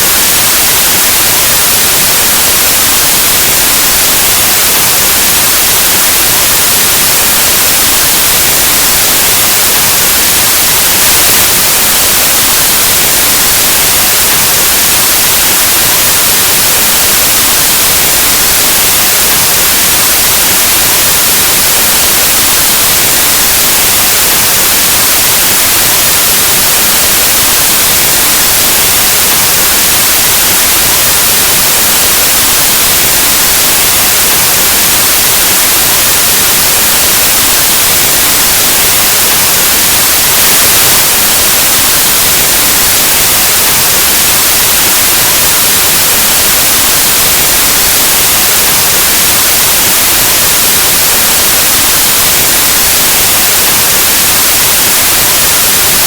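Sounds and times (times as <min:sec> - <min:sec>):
white noise static hiss: 0:00.0 - 0:56.0.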